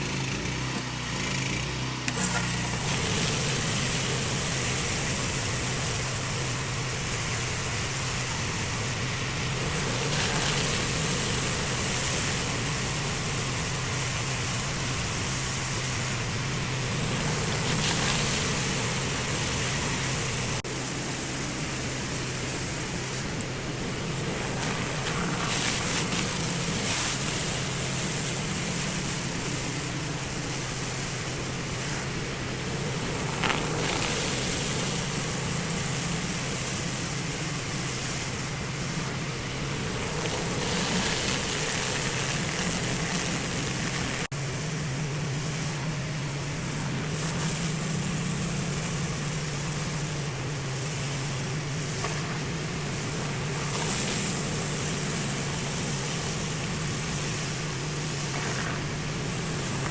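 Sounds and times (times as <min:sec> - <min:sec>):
pressure washer engine hum: 0:00.0 - 0:59.9
water spraying onto concrete: 0:00.0 - 0:59.9.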